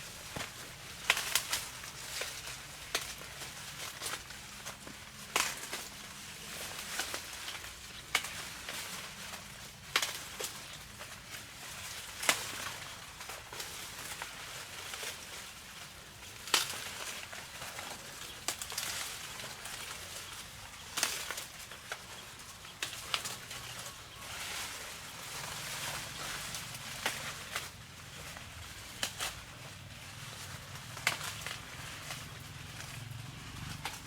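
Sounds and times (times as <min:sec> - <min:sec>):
dry corn plants rustling: 0:00.0 - 0:34.0
corn ears snapping off: 0:00.2 - 0:32.9.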